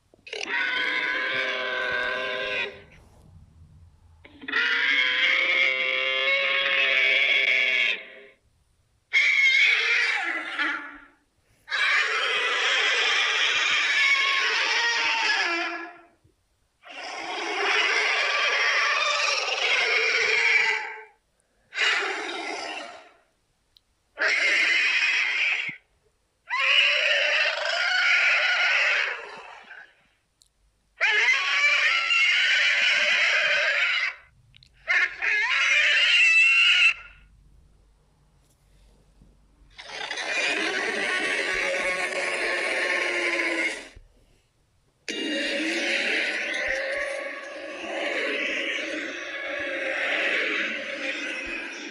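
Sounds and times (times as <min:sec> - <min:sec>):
rough creature call: 0:00.3 - 0:03.0, 0:04.2 - 0:08.4, 0:09.1 - 0:16.1, 0:16.8 - 0:23.3, 0:24.2 - 0:25.9, 0:26.5 - 0:30.0, 0:31.0 - 0:37.3, 0:39.7 - 0:44.0, 0:45.1 - 0:51.9.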